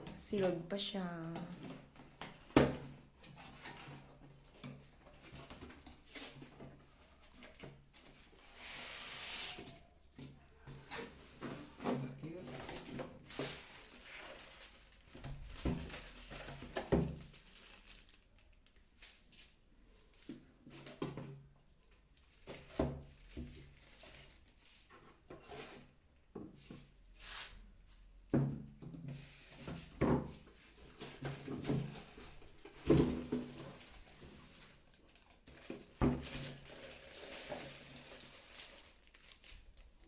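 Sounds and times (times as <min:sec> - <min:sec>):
packaging rustling and crinkling: 0:00.0 - 0:09.1, 0:10.7 - 0:21.0, 0:22.1 - 0:25.9, 0:29.1 - 0:40.0.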